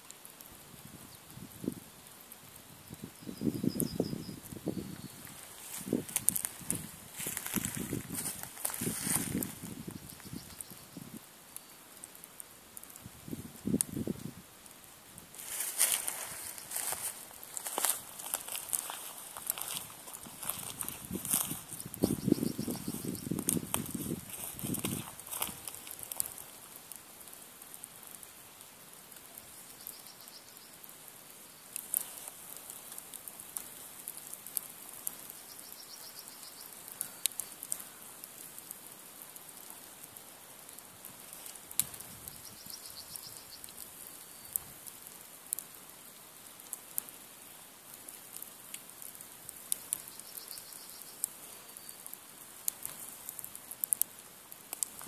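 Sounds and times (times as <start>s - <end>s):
campfire crackling and popping: 0.0s - 55.0s
faint steady fire hiss: 0.0s - 55.0s.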